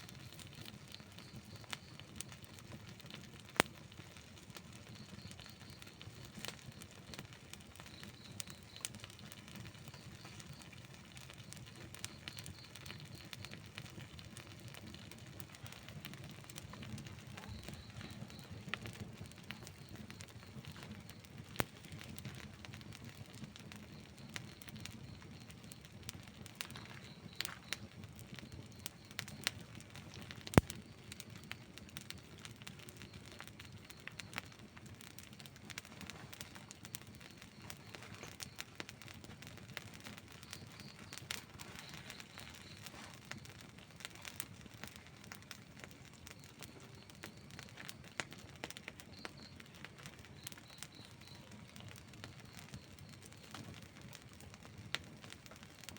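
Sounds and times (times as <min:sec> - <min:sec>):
fire crackling and popping: 0:00.0 - 0:55.9
rush of flames: 0:00.0 - 0:55.9.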